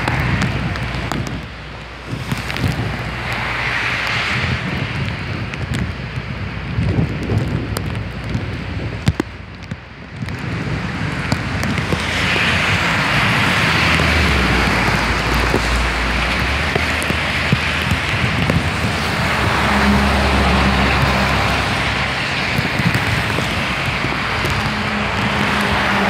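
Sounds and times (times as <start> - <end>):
heavy rain rushing: 0.0 - 26.0
low rumble: 0.0 - 26.0
storm wind gusting: 0.0 - 26.0.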